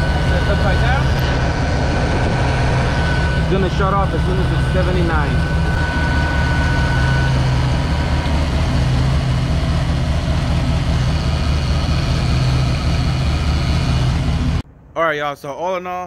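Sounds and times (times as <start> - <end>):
radiator fans rushing: 0.0 - 14.6
car engine idling: 0.0 - 14.7.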